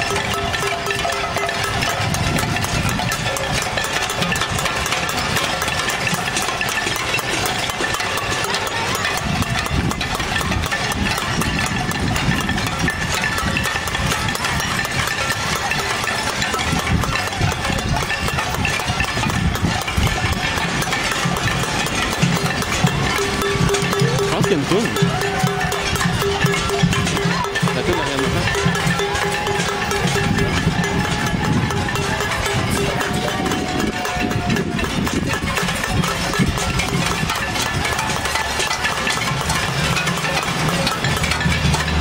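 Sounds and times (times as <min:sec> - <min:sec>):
pots and pans being beaten: 0:00.0 - 0:42.0.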